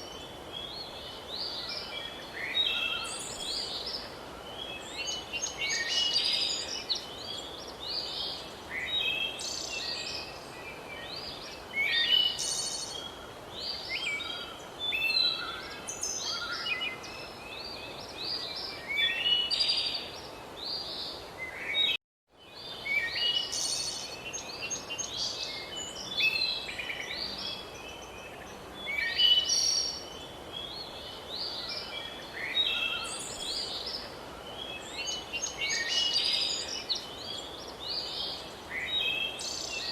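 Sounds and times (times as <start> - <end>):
steady background hiss: 0.0 - 39.9
songbirds chirping and singing: 0.6 - 39.9.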